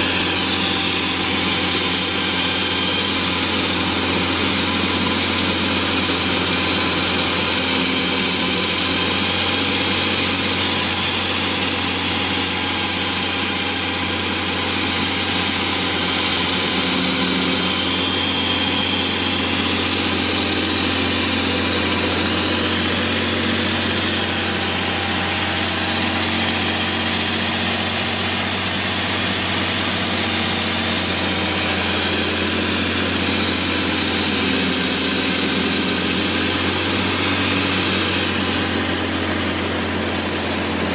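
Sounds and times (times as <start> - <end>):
concrete saw engine running: 0.0 - 40.9.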